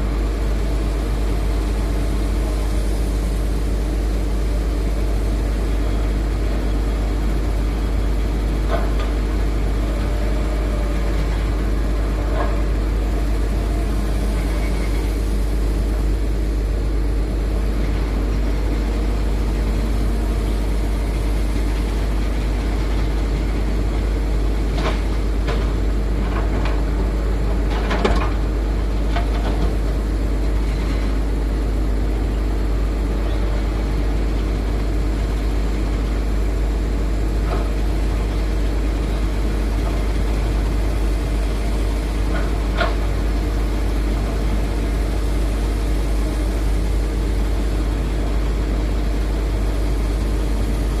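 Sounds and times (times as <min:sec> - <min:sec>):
heavy diesel machinery running: 0:00.0 - 0:51.0.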